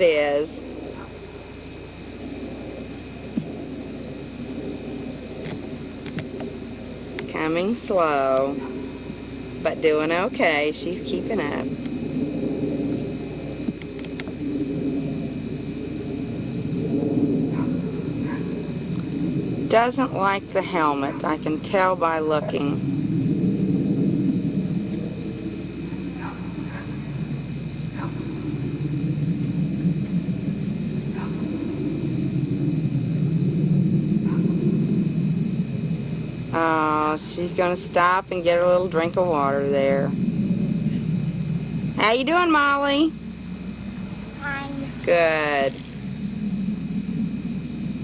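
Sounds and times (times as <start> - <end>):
crickets chirping: 0.0 - 48.0
low steady rumble: 0.0 - 48.0.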